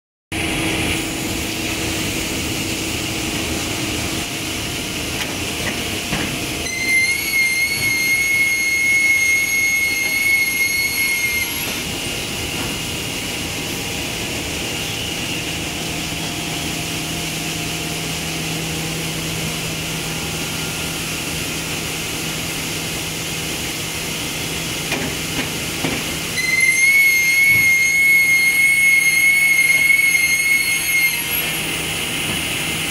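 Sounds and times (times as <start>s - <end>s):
conveyor machinery droning: 0.3s - 32.9s
high-pitched machine whine: 0.4s - 32.9s.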